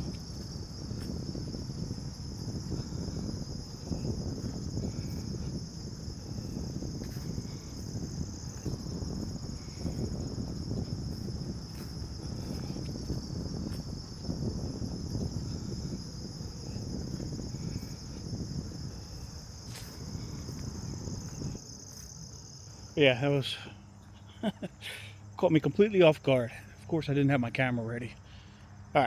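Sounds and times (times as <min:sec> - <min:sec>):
crickets and insects chirping: 0:00.0 - 0:29.0.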